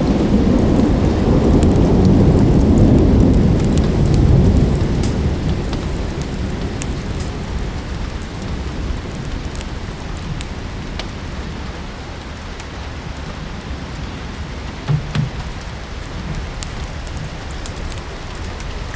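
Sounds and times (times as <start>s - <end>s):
low thunder rumble: 0.0s - 18.9s
steady rain: 0.0s - 18.9s
wood fire crackling: 0.0s - 18.9s.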